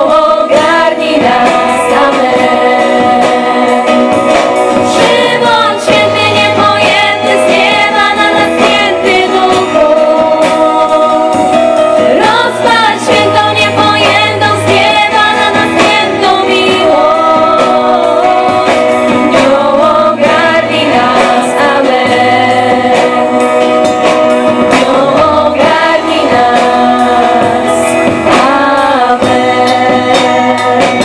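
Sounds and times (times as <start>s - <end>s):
drum kit: 0.0s - 31.0s
women singing in harmony: 0.0s - 31.0s.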